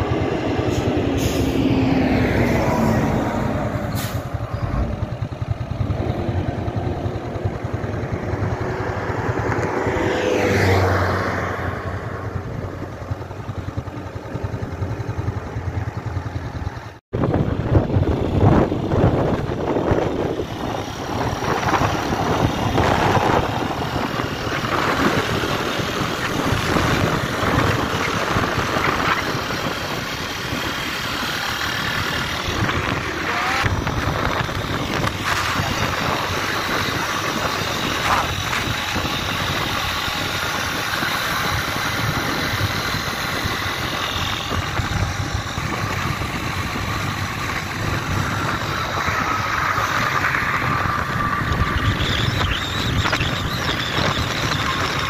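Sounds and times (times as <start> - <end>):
car road noise on highway: 0.0 - 55.0.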